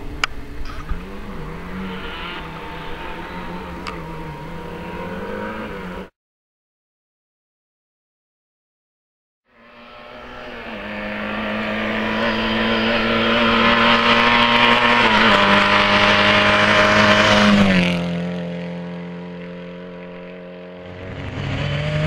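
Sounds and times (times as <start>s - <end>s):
car engine passing by: 0.1s - 6.1s, 9.5s - 22.0s.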